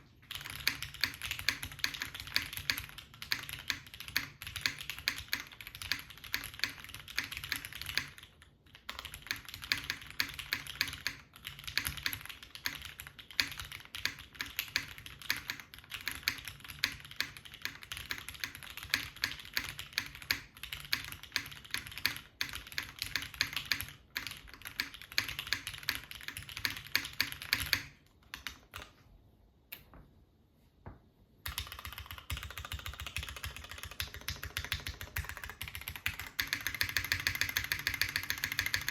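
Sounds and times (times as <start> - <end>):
mechanical keyboard typing: 0.0 - 29.0, 31.4 - 38.9.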